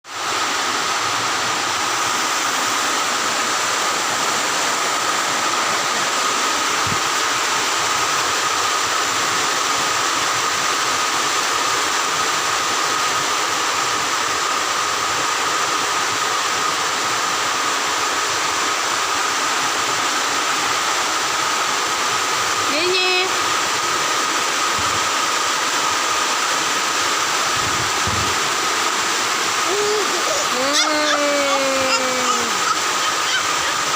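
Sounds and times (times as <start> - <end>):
heavy rain hissing: 0.0 - 33.9.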